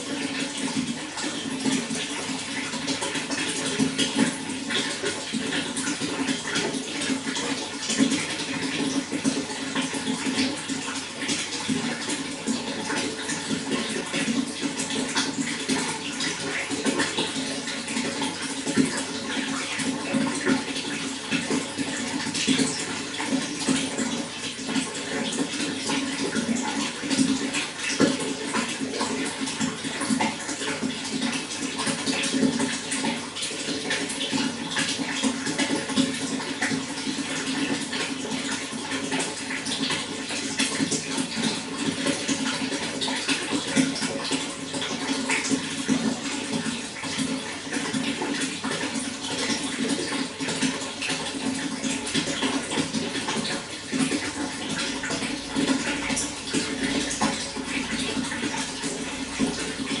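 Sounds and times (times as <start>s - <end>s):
running water rushing: 0.0s - 60.0s.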